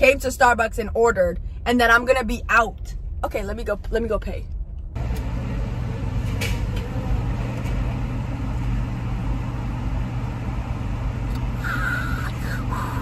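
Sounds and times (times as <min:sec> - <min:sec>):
car engine humming inside cabin: 0:00.0 - 0:13.0.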